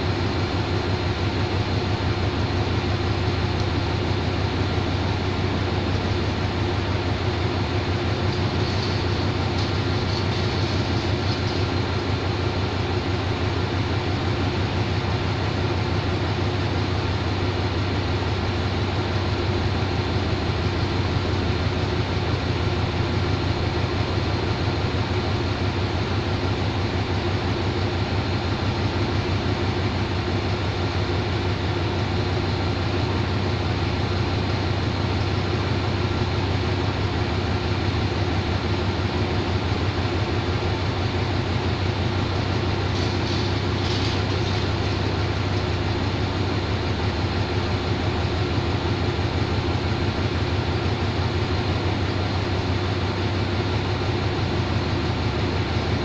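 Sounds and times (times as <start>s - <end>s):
diesel locomotive idling: 0.0s - 56.0s.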